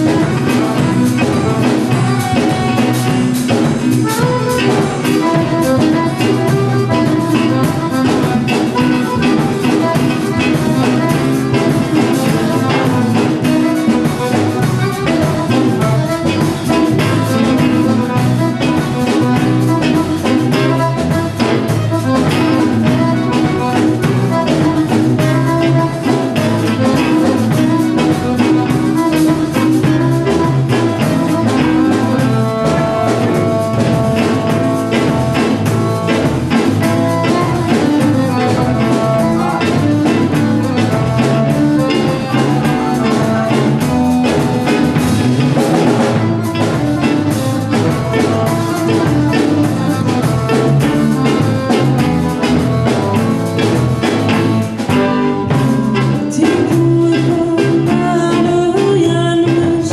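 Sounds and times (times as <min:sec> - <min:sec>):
band music with drums bass strings: 0:00.0 - 0:59.9.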